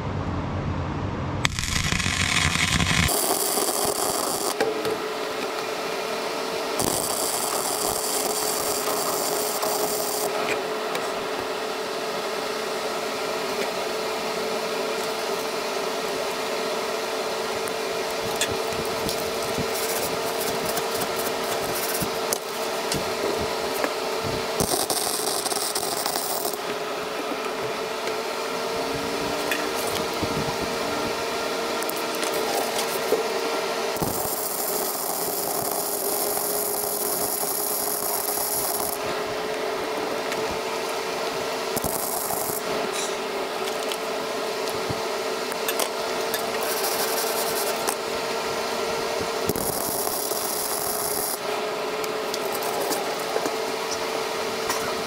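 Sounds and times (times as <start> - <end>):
steady hum: 0.0 - 10.4, 16.1 - 55.0
arc welder crackling and sizzling: 1.4 - 55.0.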